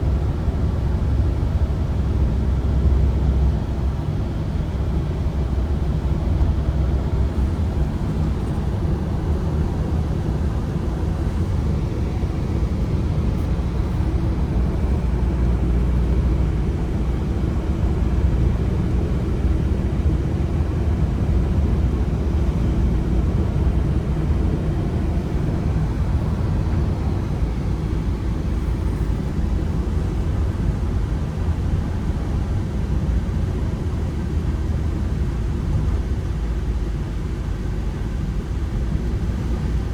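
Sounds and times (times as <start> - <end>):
van engine and tyres rumbling: 0.0 - 39.9.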